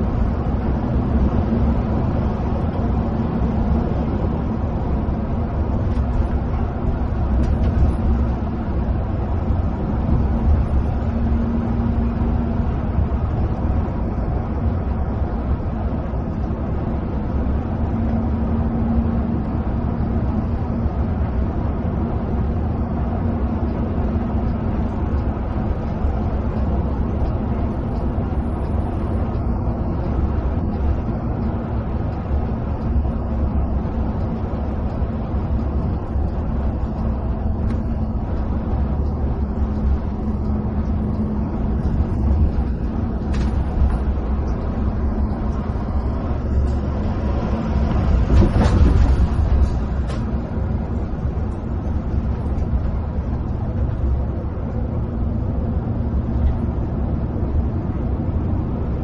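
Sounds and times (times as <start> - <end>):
coach engine drone: 0.0 - 59.0.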